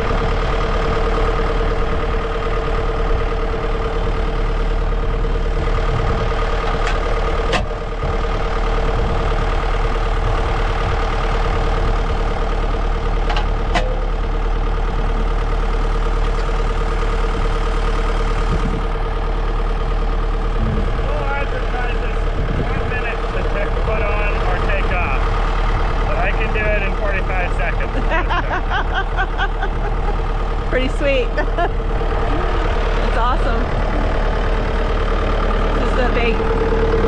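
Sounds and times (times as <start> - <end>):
diesel tractor engine idling: 0.0 - 37.0.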